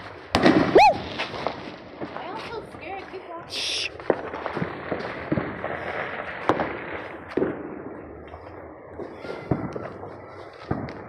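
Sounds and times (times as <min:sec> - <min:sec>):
fireworks sharp bangs: 0:00.0 - 0:11.0
small firecrackers crackling: 0:00.0 - 0:11.0.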